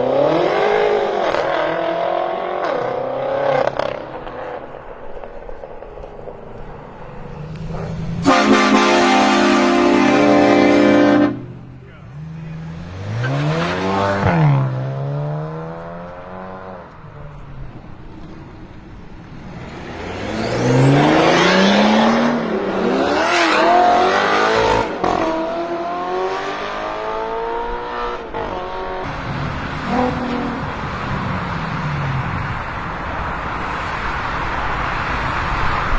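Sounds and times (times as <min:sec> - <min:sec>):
car engine revving and accelerating: 0:00.0 - 0:35.9.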